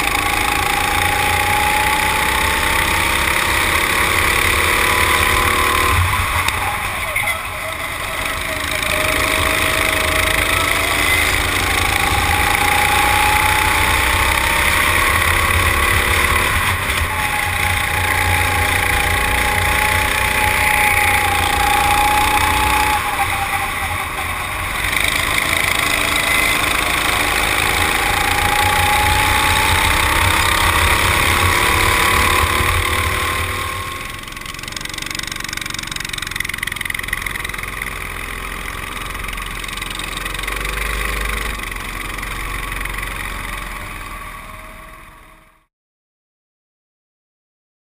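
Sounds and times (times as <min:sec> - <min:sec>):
go-kart engine: 0:00.0 - 0:45.7.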